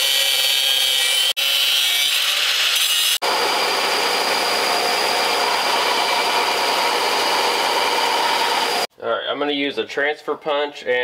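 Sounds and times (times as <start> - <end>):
angle grinder grinding steel: 0.0 - 8.9
belt grinder running: 0.0 - 8.9.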